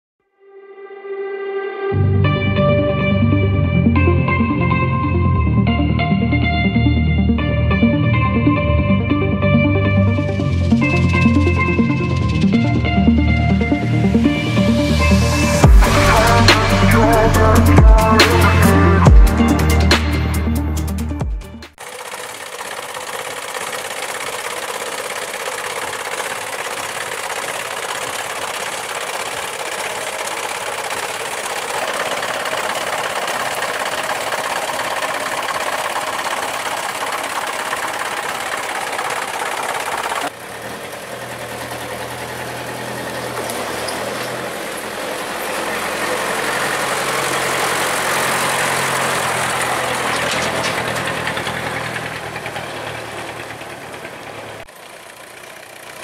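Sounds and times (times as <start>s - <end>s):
truck engine running: 2.0s - 56.0s
road noise: 9.8s - 21.0s, 21.7s - 56.0s.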